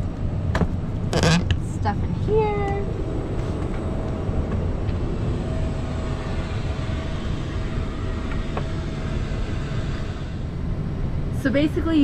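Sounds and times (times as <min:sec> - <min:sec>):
cabin air system rumble and hiss: 0:00.0 - 0:12.0
faint steady hum: 0:00.0 - 0:12.0.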